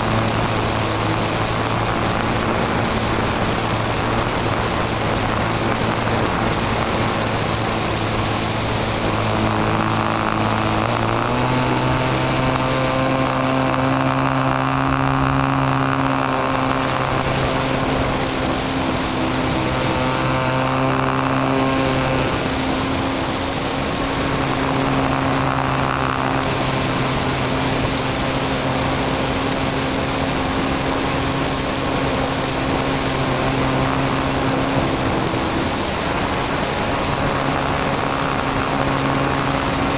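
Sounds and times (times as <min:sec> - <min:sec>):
model airplane motor and propeller: 0:00.0 - 0:39.9.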